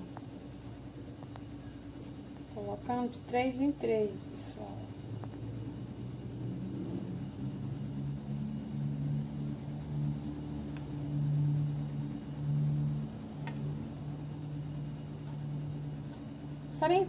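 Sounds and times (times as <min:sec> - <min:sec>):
low droning hum: 0:00.0 - 0:17.0.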